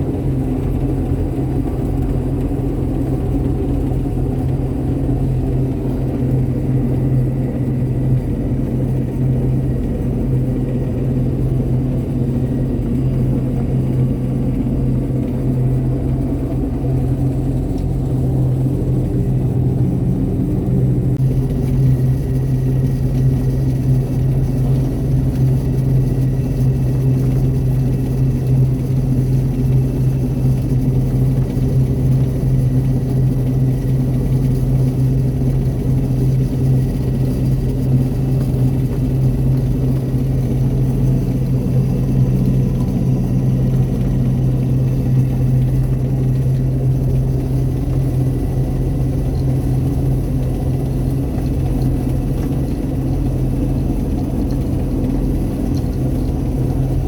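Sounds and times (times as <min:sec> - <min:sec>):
harvester engine humming: 0:00.0 - 0:57.0.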